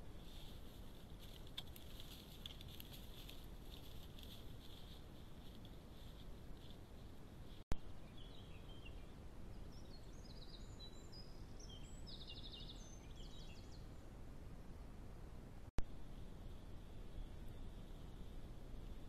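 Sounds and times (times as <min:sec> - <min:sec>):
faint bird song: 0:00.0 - 0:19.0
steady low hiss: 0:00.0 - 0:19.0.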